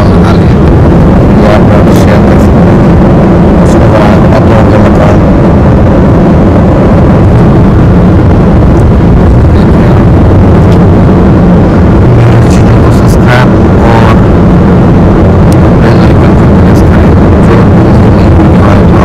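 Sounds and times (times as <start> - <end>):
vehicle engine and road rumble: 0.0 - 19.0
wind buffeting microphone: 0.0 - 19.0.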